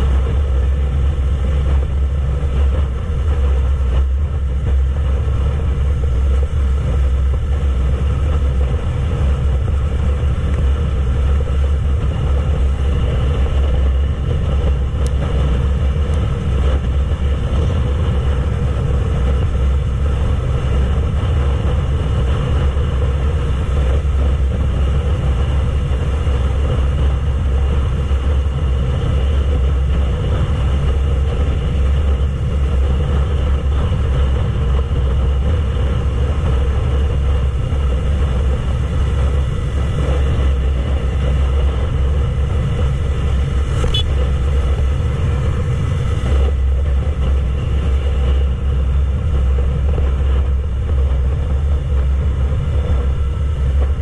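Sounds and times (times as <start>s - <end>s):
motorcycle engine cruising: 0.0s - 54.0s
wind rumble on microphone: 0.0s - 54.0s.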